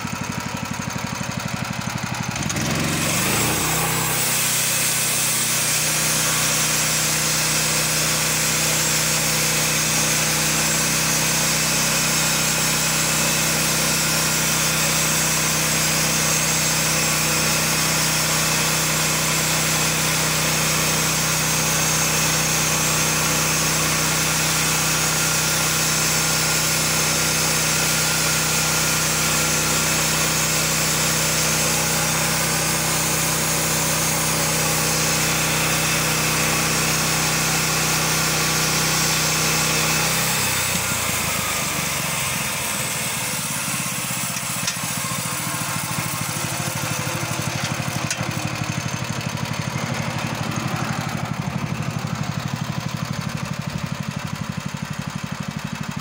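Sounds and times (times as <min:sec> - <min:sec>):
gasoline engine running: 0:00.0 - 0:56.0
saw blade hissing through log: 0:02.4 - 0:52.3.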